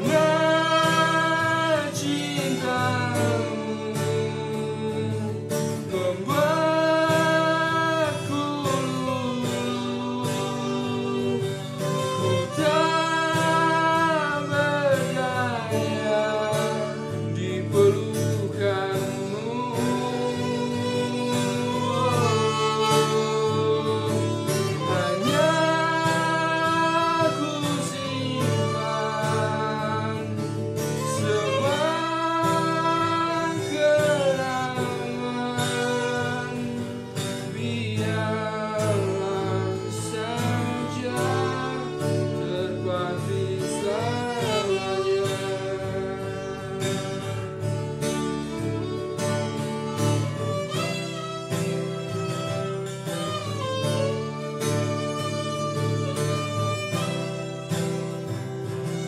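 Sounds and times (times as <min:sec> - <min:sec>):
person singing: 0:00.0 - 0:59.0.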